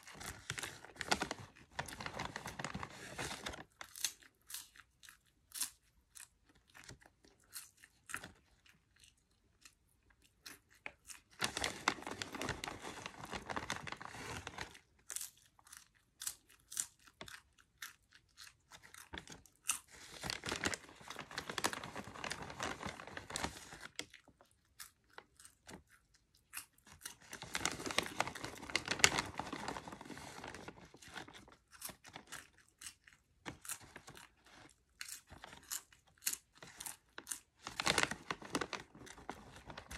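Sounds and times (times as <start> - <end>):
popcorn crunching: 0.0 - 39.9.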